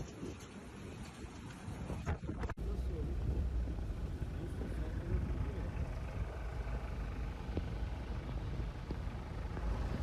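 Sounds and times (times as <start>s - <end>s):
snowstorm wind around car: 0.0s - 10.0s.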